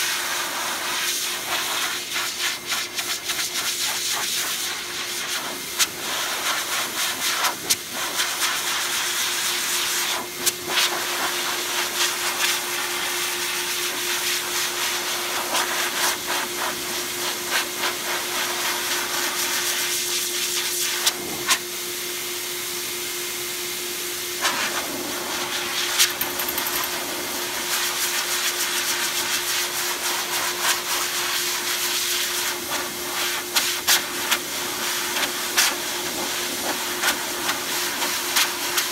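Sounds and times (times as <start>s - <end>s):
dog dryer blowing air: 0.0s - 38.9s.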